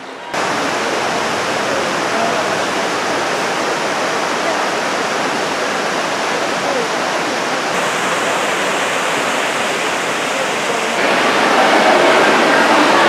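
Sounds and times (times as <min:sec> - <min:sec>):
churning water in rapids channel: 0:00.0 - 0:13.0
water pouring over rocks: 0:00.4 - 0:13.0.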